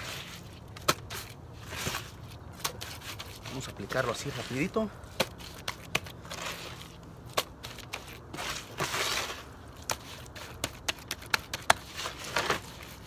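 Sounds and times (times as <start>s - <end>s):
gritty scraping of wet cement: 0.0s - 13.0s.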